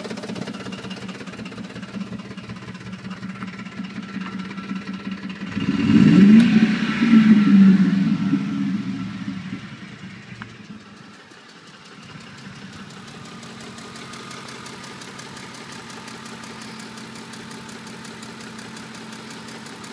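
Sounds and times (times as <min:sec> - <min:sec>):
rapid regular engine knock: 0:00.0 - 0:19.9
truck engine idling: 0:00.0 - 0:19.9.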